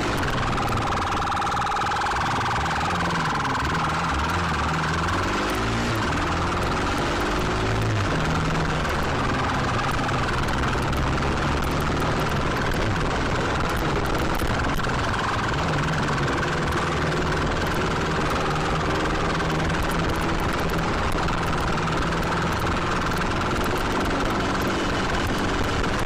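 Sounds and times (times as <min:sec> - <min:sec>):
motorcycle engine running: 0:00.0 - 0:26.0
wind noise on camera: 0:02.4 - 0:26.0.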